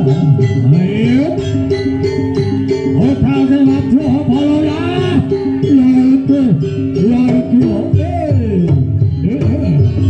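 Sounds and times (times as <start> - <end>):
drum and gong background: 0.0 - 10.0
loud sliding melody line: 0.0 - 10.0.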